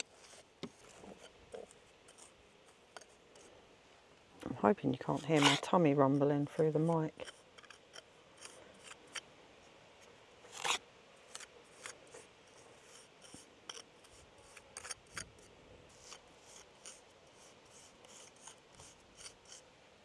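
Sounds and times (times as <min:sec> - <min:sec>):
hand tool scraping stone: 0:00.0 - 0:03.5, 0:04.5 - 0:09.3, 0:10.5 - 0:19.7.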